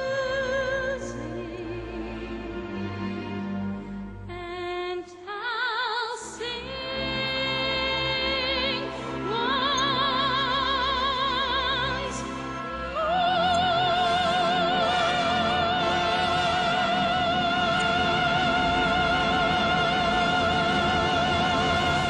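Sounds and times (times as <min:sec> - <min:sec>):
operatic voice singing: 0:00.0 - 0:03.2, 0:04.3 - 0:22.0
classical accompaniment: 0:00.0 - 0:05.1, 0:06.2 - 0:22.0.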